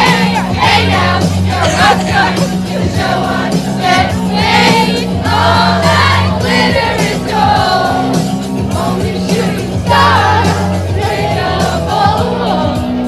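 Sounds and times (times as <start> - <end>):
backing track: 0.0 - 13.0
group singing pop song: 0.0 - 13.0.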